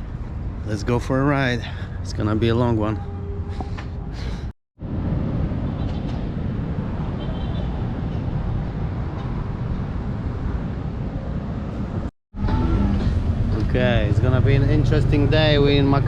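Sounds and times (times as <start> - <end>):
rumble of road traffic: 0.0 - 16.0.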